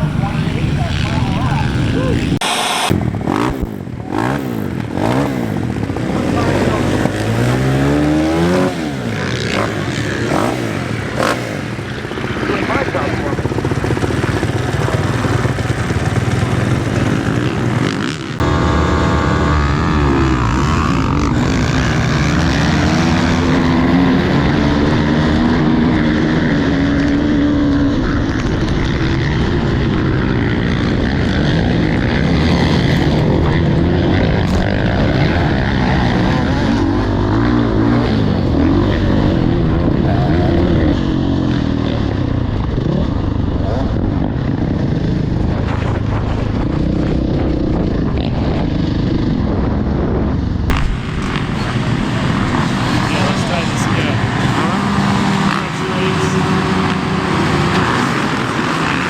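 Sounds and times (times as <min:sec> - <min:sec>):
dirt bike engine revving: 0:00.0 - 0:50.1, 0:50.7 - 0:59.0.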